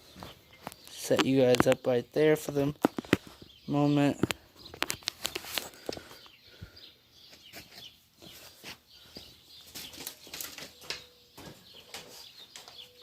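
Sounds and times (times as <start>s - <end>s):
faint bird chirps: 2.5s - 13.0s.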